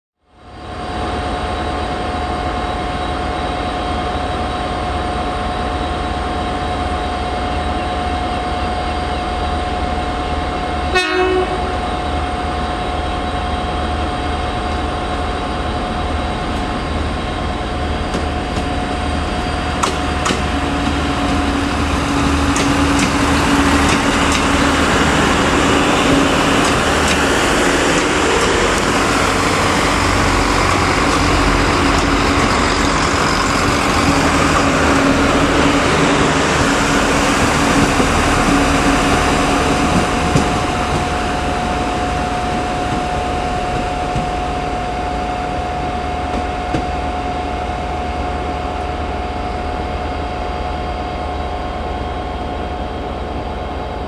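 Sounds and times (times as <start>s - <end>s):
diesel train engines running: 0.3s - 54.0s
train pulling away and passing: 0.3s - 54.0s.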